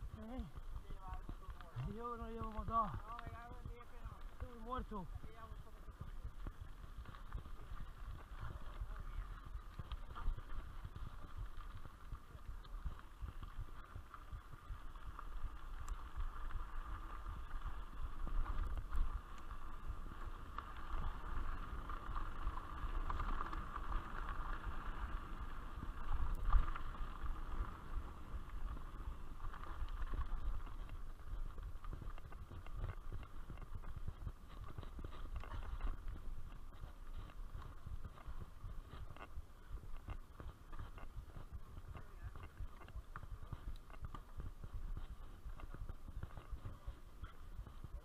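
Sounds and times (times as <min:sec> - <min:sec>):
bike tyres and rattle on dirt: 0:00.0 - 0:48.0
wind rumbling on microphone: 0:00.0 - 0:48.0.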